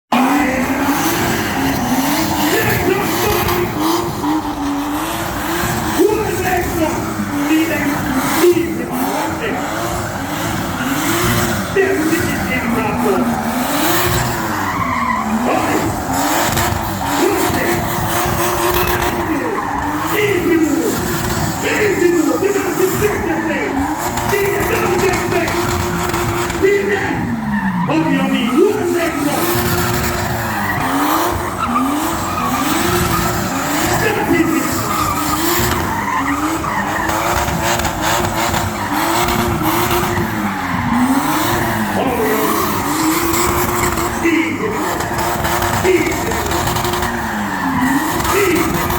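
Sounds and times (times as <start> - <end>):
car engine revving high: 0.1 - 48.9
tyre squeal: 0.2 - 48.9.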